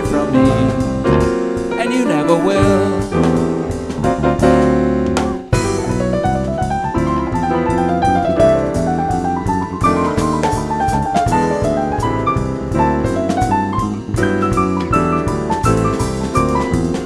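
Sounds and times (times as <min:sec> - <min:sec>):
jazz piano trio playing: 0:00.0 - 0:17.0.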